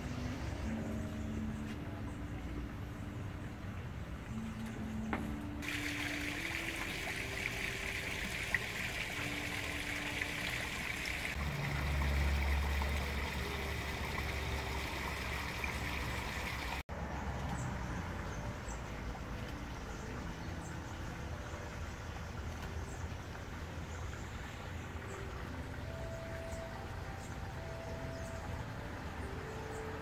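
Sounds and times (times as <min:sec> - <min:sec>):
running water trickling: 0:02.7 - 0:16.8, 0:19.5 - 0:30.0.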